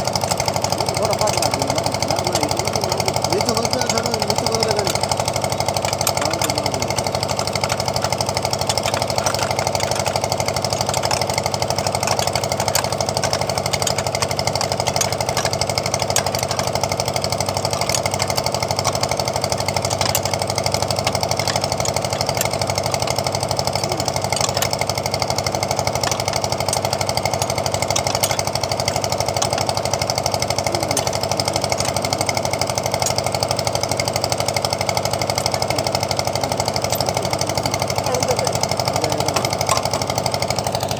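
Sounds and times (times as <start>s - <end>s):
small engine idling: 0.0s - 40.9s.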